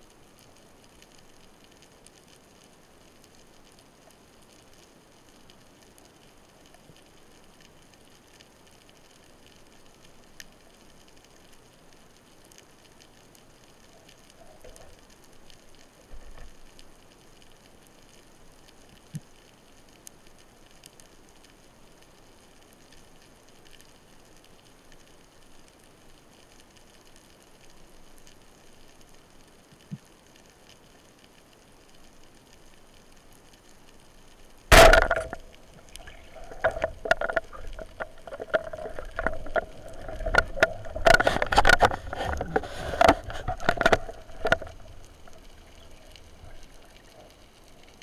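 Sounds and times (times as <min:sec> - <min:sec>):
underwater crackle and hiss: 0:00.0 - 0:48.0.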